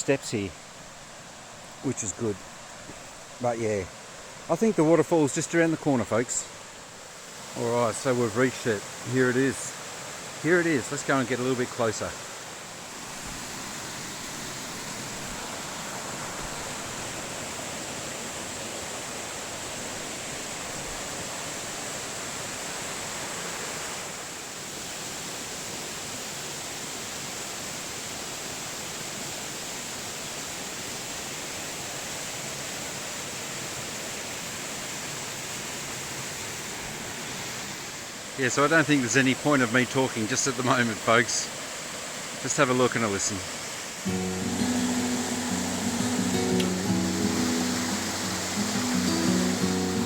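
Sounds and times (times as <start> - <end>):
small waterfall splashing: 0.0 - 50.0.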